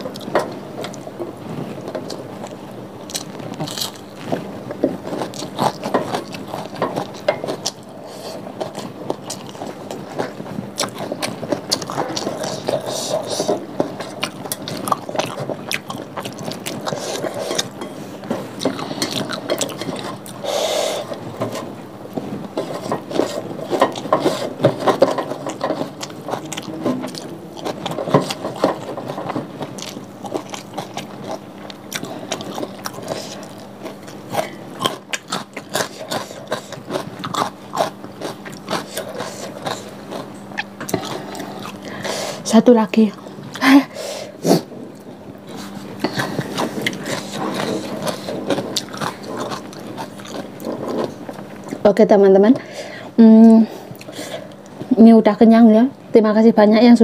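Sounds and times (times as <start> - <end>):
chewing and smacking: 0.0 - 43.6, 44.9 - 51.9.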